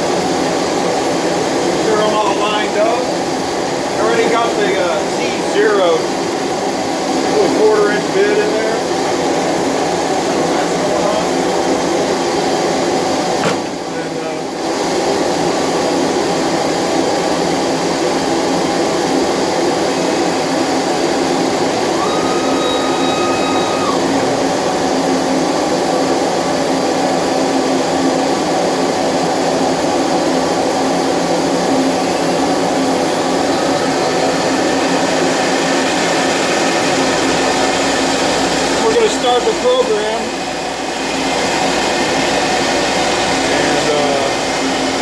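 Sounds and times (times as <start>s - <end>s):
vacuum pump running: 0.0s - 45.0s.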